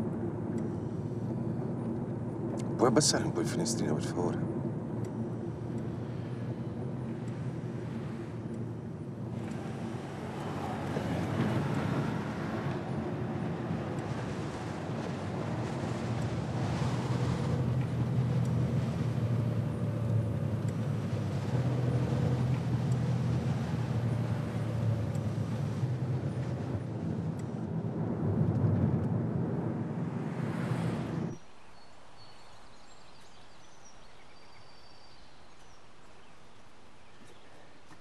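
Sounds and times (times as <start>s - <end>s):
vehicle engine hum and road noise: 0.0s - 38.0s.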